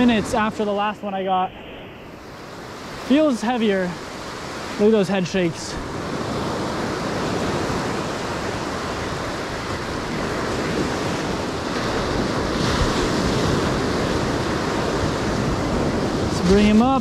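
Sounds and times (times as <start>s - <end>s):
ocean waves washing up beach: 0.0s - 17.0s.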